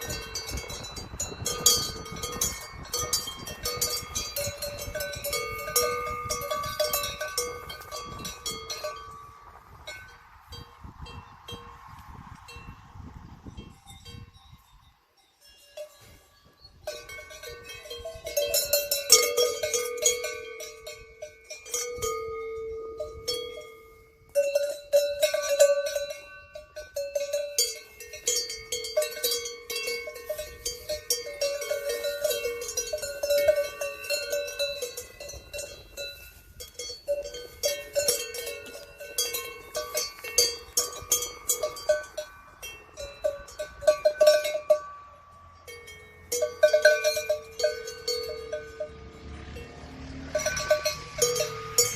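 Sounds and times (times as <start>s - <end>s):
cowbells clanking: 0.0s - 11.8s, 13.5s - 51.9s.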